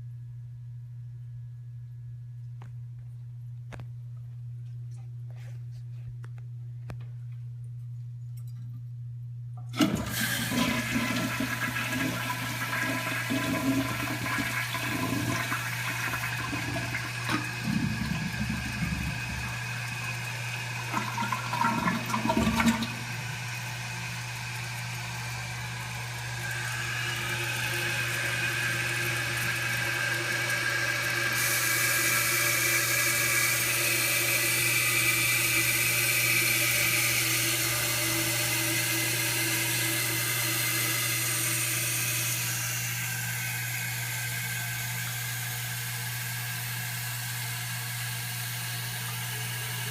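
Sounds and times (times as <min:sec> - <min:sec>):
toilet flushing: 0:09.6 - 0:49.9
toilet tank refilling hiss: 0:09.7 - 0:49.9.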